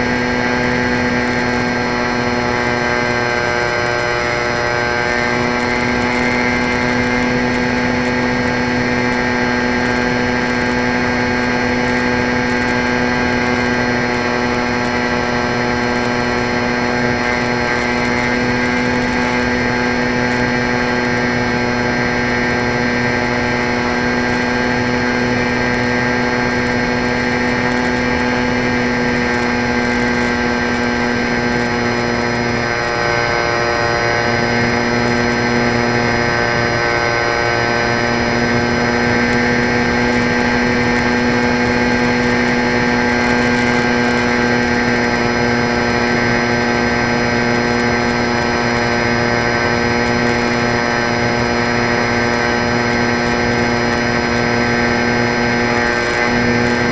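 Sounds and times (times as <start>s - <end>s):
model plane motor whining: 0.0s - 56.9s.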